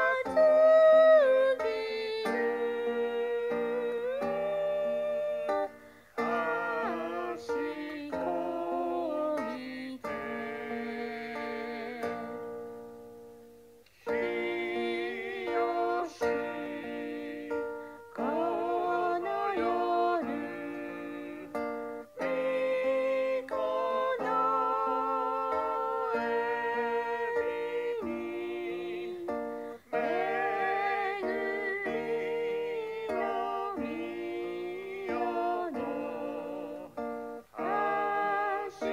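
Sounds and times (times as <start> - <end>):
hymn sung with vibrato: 0.0 - 12.5, 14.1 - 38.9
plucked-string accompaniment: 0.0 - 38.9.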